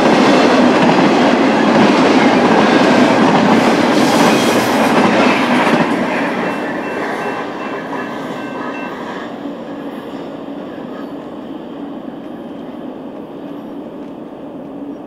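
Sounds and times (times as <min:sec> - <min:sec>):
freight train cars rolling on rails: 0:00.0 - 0:15.0.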